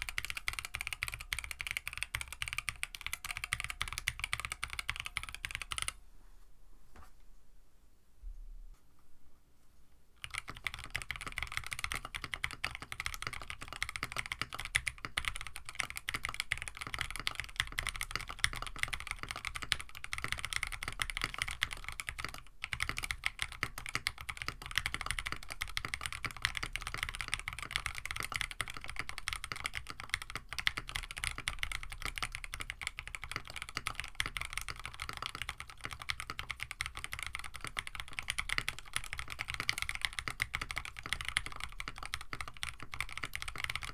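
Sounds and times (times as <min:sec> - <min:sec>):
fast typing on mechanical keyboard: 0:00.0 - 0:06.0, 0:10.2 - 0:43.9.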